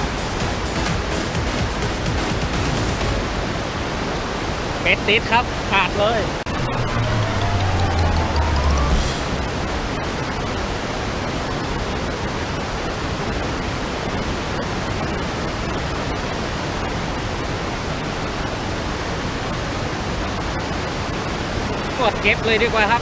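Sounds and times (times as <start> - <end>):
water flowing over weir: 3.2 - 23.0.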